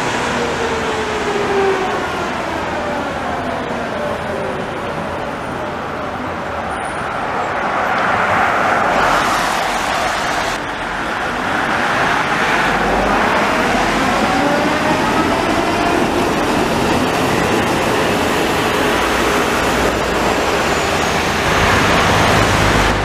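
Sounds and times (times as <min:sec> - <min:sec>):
street traffic: 0:00.0 - 0:23.0
tram wheels rumbling on rails: 0:00.0 - 0:23.0.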